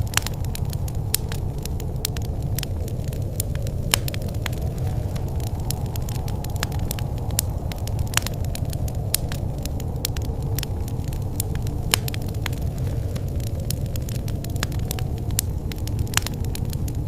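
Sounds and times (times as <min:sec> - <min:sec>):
fire burning rumble: 0:00.0 - 0:17.0
fire popping and snapping: 0:00.0 - 0:17.0.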